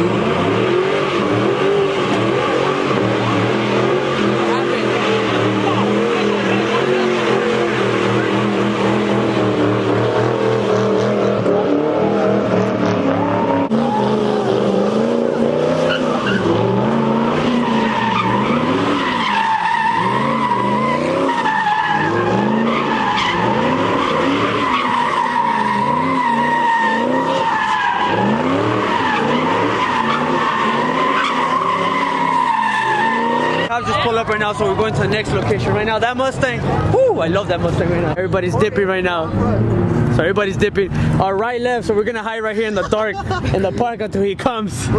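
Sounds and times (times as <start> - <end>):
car engine revving: 0.0 - 41.4
tires squealing: 0.0 - 43.0.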